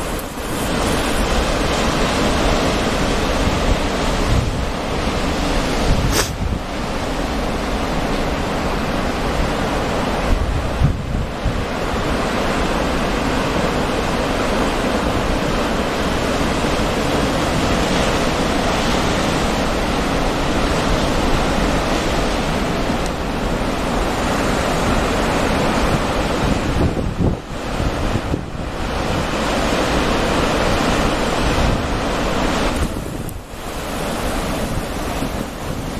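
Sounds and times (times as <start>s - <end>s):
ocean surf breaking: 0.0s - 35.9s
wind buffeting microphone: 0.0s - 35.9s.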